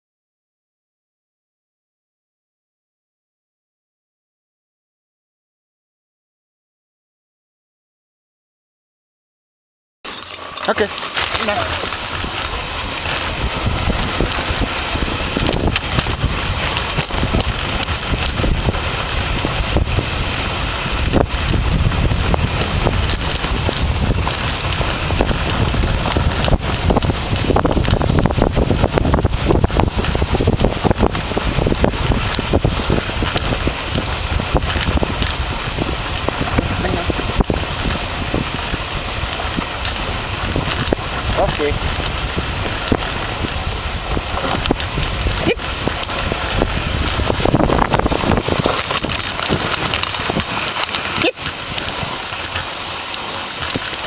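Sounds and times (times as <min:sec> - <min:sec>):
sled runners hissing over snow: 0:10.1 - 0:54.0
sled ticks and knocks: 0:10.1 - 0:54.0
wind buffeting microphone: 0:10.7 - 0:54.0.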